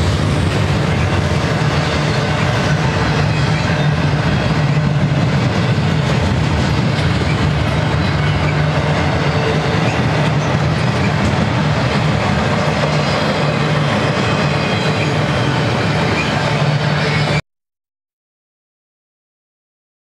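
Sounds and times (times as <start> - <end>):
steel wheels rumbling on rail: 0.0 - 17.4.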